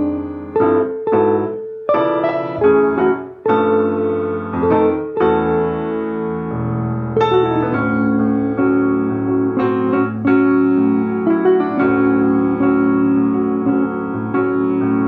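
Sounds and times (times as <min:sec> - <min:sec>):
electric guitar: 0:00.0 - 0:15.0
grand piano: 0:00.0 - 0:15.0.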